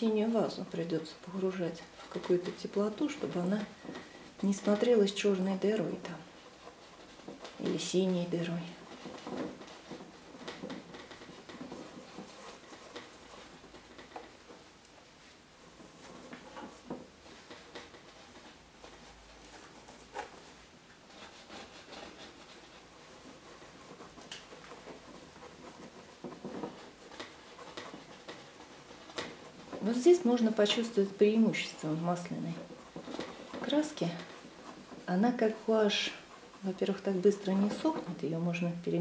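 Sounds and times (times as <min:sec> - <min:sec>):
paintbrush scratching and tapping: 0:00.0 - 0:39.0.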